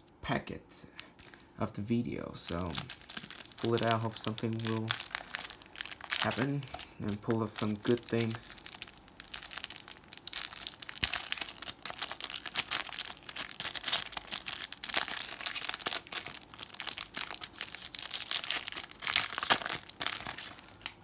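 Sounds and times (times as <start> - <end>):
foil wrapper tearing and crinkling: 2.4 - 21.0.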